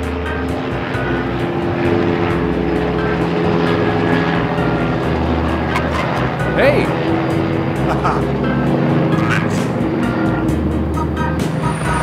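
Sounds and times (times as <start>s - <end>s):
music: 0.0s - 12.0s
propeller airplane engine: 0.0s - 12.0s.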